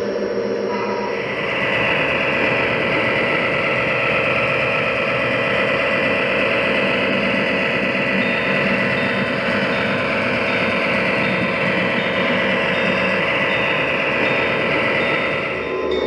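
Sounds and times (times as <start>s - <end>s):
diesel locomotive engine idling: 1.0s - 16.0s.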